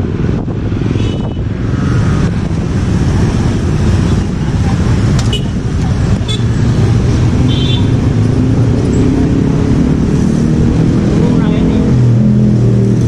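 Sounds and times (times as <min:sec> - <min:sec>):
city street traffic: 0:00.0 - 0:13.0
vehicle engines running: 0:00.0 - 0:13.0.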